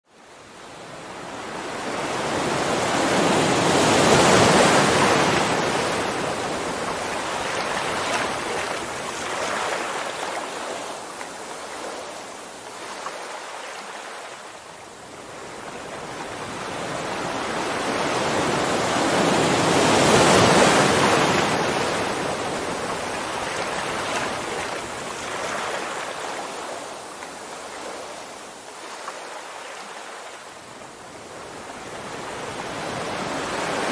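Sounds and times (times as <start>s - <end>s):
ocean waves breaking: 0.8s - 30.4s.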